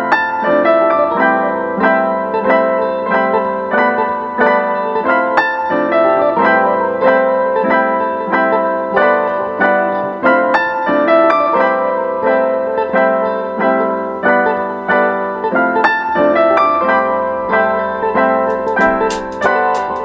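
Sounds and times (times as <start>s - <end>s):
keyboard chords: 0.0s - 20.0s.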